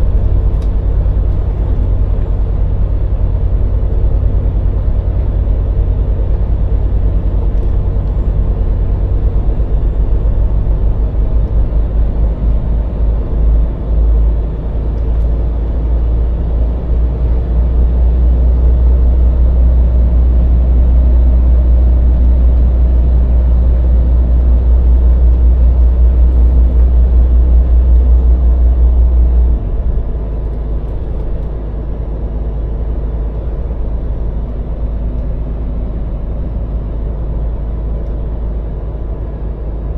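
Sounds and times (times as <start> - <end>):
lorry diesel engine rumble: 0.0 - 39.9.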